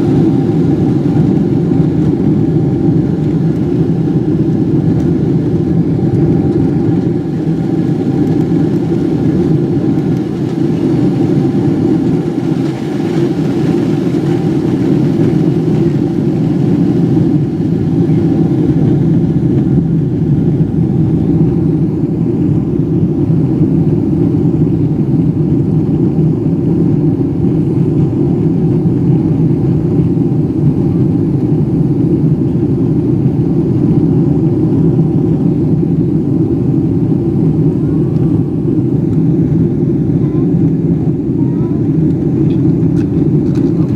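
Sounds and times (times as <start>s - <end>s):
airplane cabin engine rumble: 0.0s - 43.9s.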